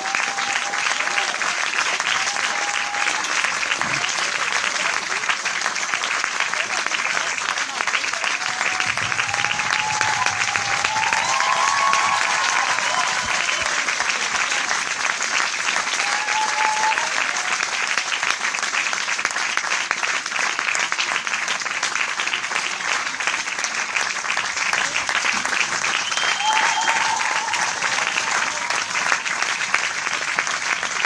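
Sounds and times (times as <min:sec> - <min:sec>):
large audience applauding: 0:00.0 - 0:31.0.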